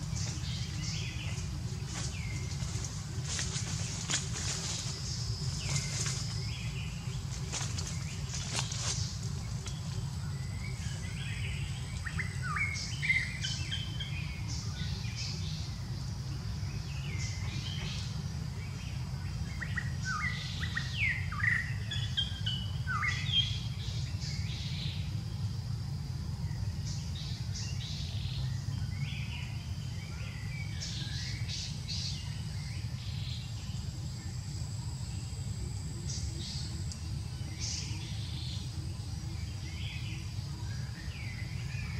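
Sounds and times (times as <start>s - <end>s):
birds chirping: 0.0s - 25.6s, 26.2s - 41.9s
steady low rumble: 0.0s - 41.9s.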